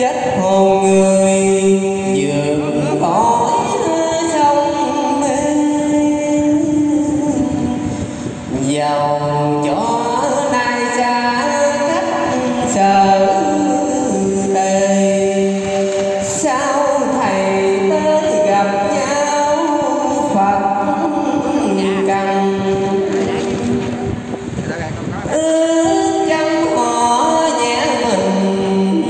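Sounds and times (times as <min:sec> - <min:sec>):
man chanting into a microphone: 0:00.0 - 0:29.0.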